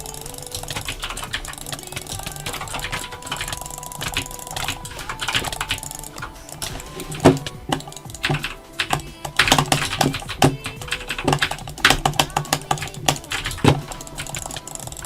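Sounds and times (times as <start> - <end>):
sharp clicking: 0.0 - 15.0.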